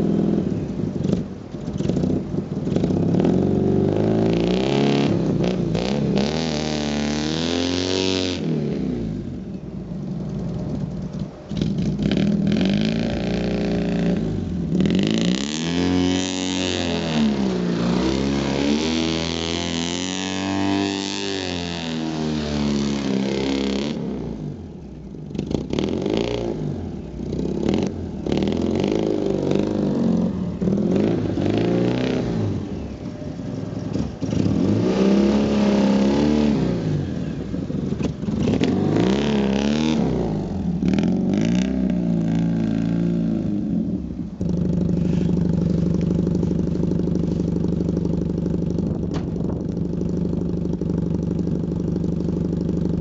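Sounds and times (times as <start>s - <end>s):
small car engine revving: 0.0s - 53.0s.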